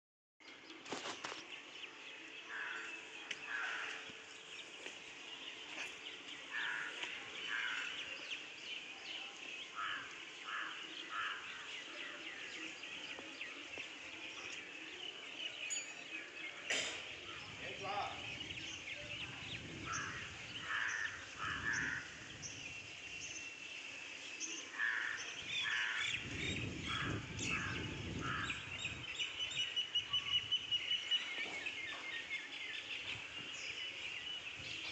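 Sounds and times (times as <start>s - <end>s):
birds chirping: 0.4s - 34.9s.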